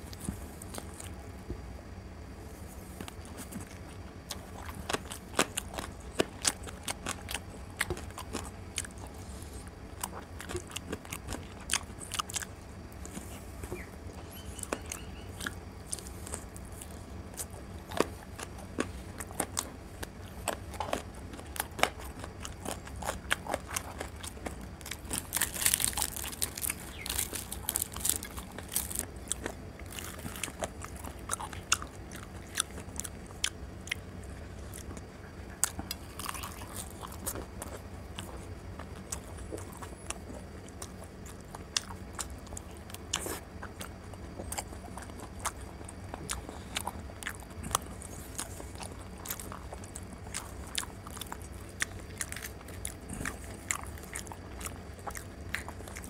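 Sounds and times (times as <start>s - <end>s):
steady low hum: 0.0s - 56.0s
crackling: 2.7s - 56.0s
wet chewing and mouth clicks: 2.9s - 56.0s.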